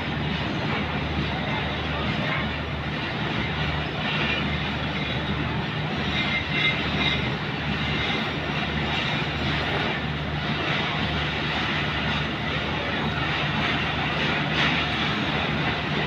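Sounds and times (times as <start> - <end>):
engine drone: 0.0 - 16.0
train wheel and track noise: 0.0 - 16.0.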